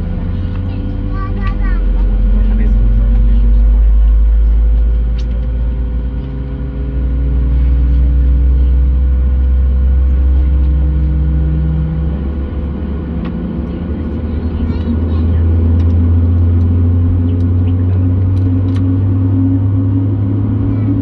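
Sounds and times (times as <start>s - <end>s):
aircraft cabin rumble and hum: 0.0s - 21.0s
deep tone rising in pitch: 0.0s - 21.0s.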